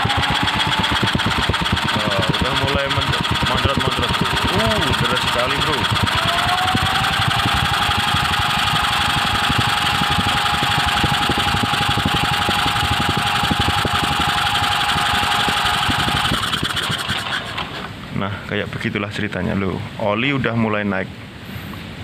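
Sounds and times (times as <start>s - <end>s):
electric drill whining: 0.0s - 17.9s
engine piston clattering: 0.0s - 18.0s.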